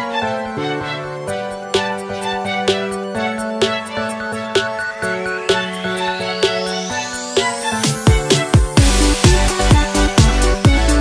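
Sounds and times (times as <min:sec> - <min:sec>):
electronic music with steady beat: 0:00.0 - 0:11.0
rising sweep: 0:01.8 - 0:10.6.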